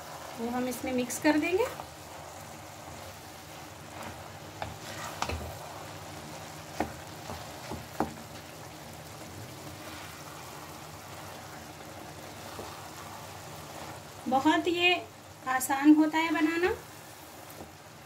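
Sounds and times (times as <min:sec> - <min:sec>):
greens sizzling: 0:00.0 - 0:18.0
wooden spatula stirring greens: 0:00.0 - 0:18.0.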